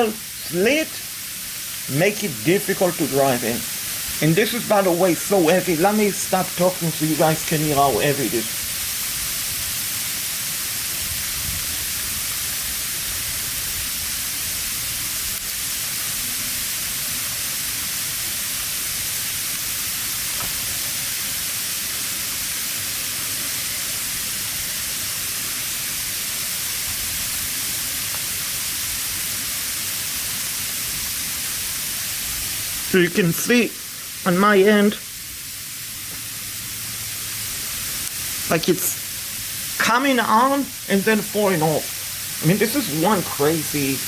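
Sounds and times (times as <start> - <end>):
sleet hissing on surfaces: 0.0 - 44.0.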